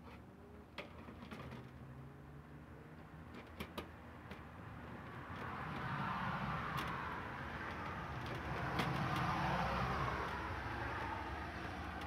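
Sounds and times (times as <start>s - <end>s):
road vehicle noise: 0.0s - 12.0s.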